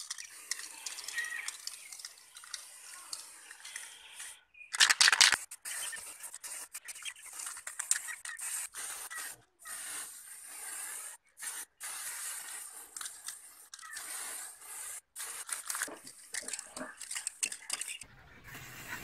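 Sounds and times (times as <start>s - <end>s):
spray paint can hissing: 0.0s - 18.0s.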